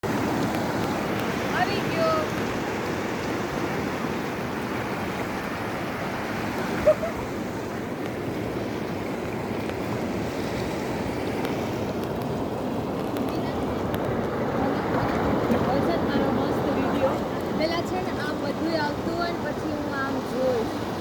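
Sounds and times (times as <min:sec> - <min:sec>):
sea waves and surf: 0:00.0 - 0:21.0.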